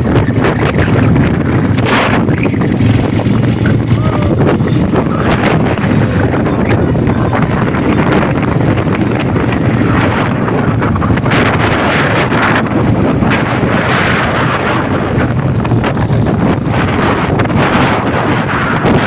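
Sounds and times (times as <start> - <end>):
quad bike engine running: 0.0 - 19.0
wind buffeting microphone: 0.0 - 19.0.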